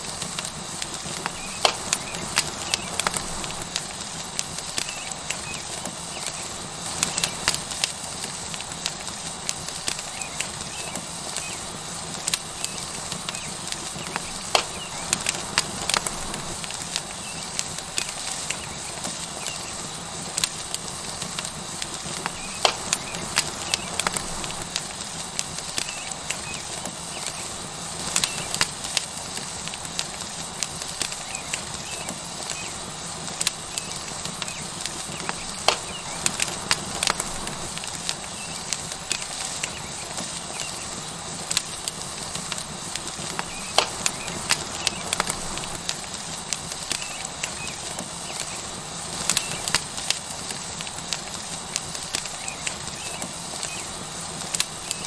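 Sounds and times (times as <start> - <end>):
steak sizzling on hot rock: 0.0 - 55.0
wood fire crackling and popping: 0.0 - 55.0.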